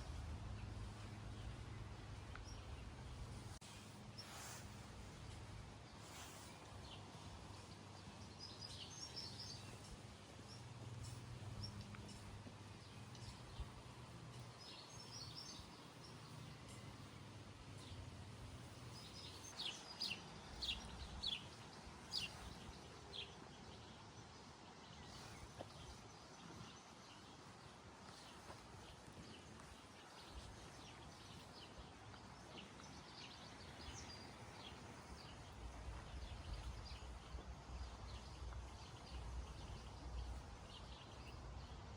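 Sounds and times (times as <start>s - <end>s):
birds chirping: 0.0s - 41.9s
faint outdoor background noise: 0.0s - 41.9s.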